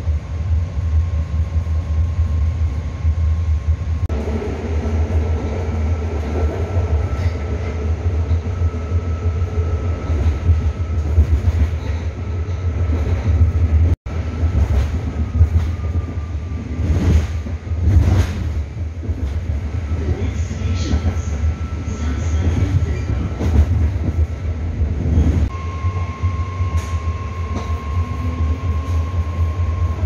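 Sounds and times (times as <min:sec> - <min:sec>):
train heavy rumble: 0:00.0 - 0:30.0.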